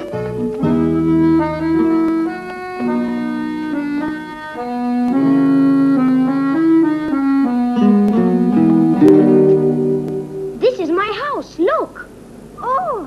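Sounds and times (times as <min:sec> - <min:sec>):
background music melody: 0:00.0 - 0:11.1.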